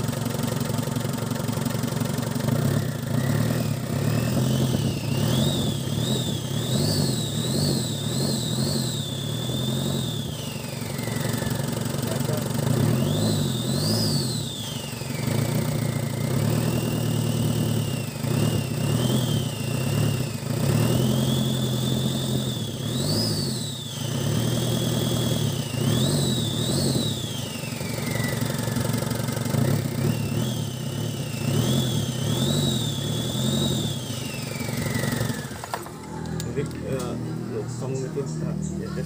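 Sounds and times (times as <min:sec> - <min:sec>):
diesel engine revving: 0:00.0 - 0:39.0
engine whine: 0:00.0 - 0:39.0.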